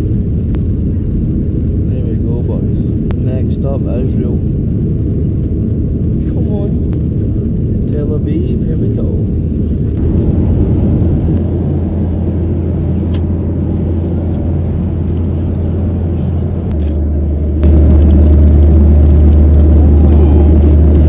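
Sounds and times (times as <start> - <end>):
jet engine and airflow rumble: 0.0 - 21.0.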